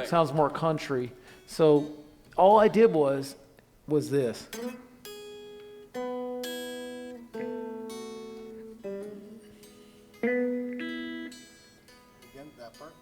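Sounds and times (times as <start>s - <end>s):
guitar playing blues lick: 0.0s - 3.0s, 4.4s - 13.0s.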